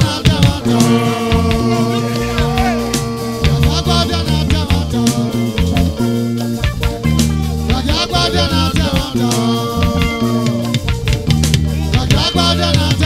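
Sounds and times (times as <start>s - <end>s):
person singing: 0.0s - 7.1s, 7.7s - 10.9s, 11.8s - 13.0s
live band music: 0.0s - 13.0s.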